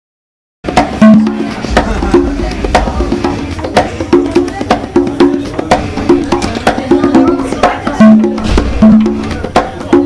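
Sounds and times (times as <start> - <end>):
congas played by hand: 0.6 - 10.0.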